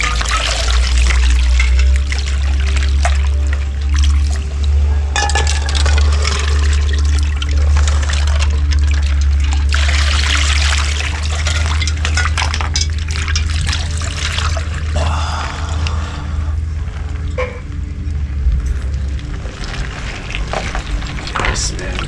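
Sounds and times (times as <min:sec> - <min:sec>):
water pouring and splashing: 0:00.0 - 0:16.0, 0:18.4 - 0:22.0.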